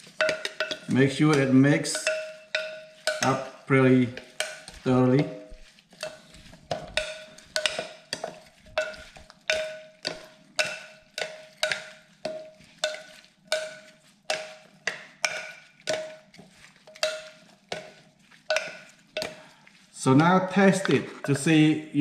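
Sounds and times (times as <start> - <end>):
spoon clinking against bowl: 0.0 - 19.8.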